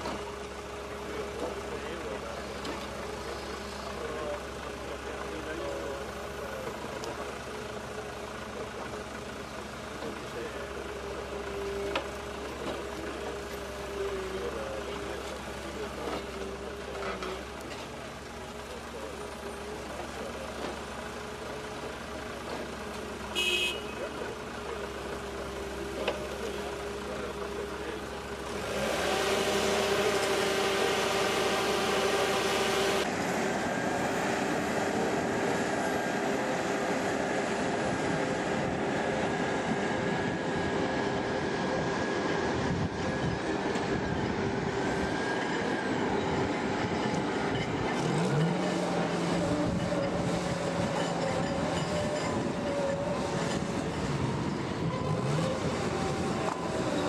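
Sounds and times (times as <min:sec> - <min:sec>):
diesel engines under load: 0:00.0 - 0:57.0.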